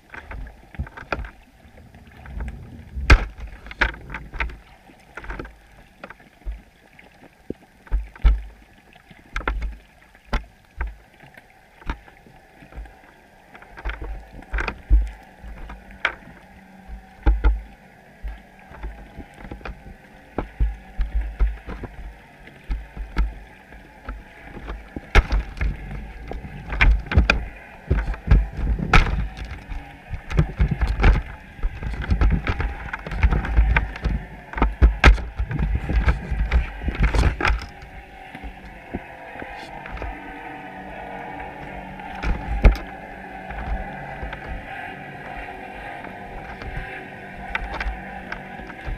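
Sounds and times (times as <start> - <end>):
muffled underwater knocks and clicks: 0.0 - 48.9.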